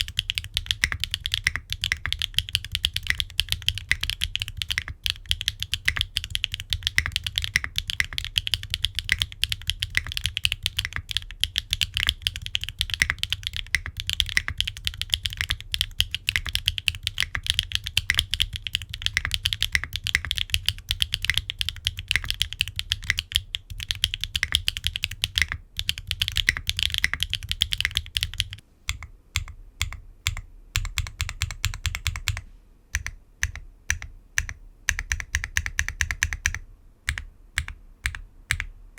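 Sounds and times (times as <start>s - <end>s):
mechanical keyboard typing: 0.0s - 38.7s.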